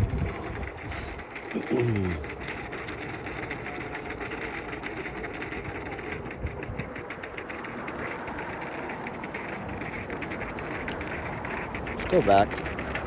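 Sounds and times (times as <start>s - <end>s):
electric boat motors running: 0.0s - 13.0s.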